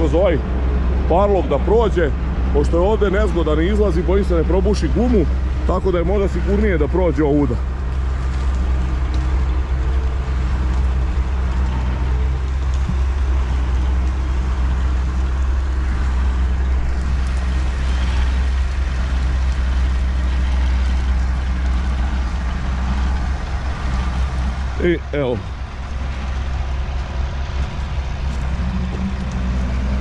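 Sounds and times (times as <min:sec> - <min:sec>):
combine harvester diesel engine: 0:00.0 - 0:30.0.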